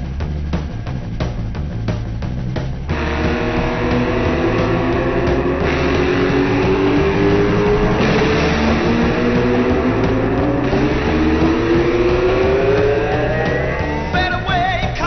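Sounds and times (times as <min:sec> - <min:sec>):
motorcycle engine accelerating: 0:00.0 - 0:15.0
rock music with guitar: 0:00.0 - 0:15.0.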